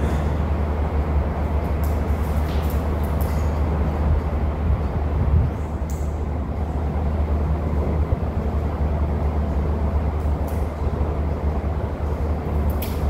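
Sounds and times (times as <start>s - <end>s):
room noise hum: 0.0s - 13.0s.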